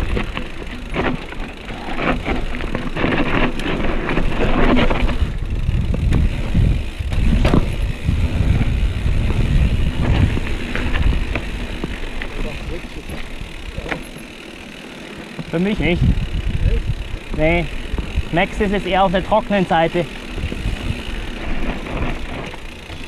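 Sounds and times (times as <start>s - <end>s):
bike knocks and rattles: 0.0s - 23.0s
bike tyres rumbling on trail: 0.0s - 23.0s.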